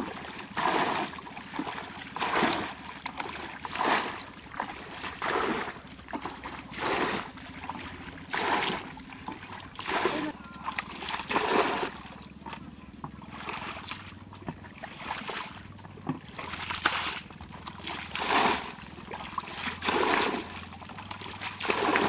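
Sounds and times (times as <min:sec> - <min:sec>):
water splashing from bucket: 0:00.0 - 0:12.2, 0:13.3 - 0:22.0.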